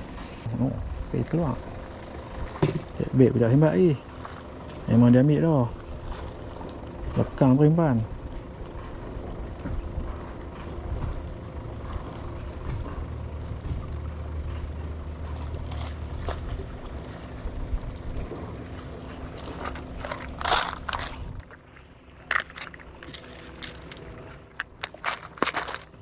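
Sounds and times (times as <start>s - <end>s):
outboard motor humming: 0.0s - 26.0s.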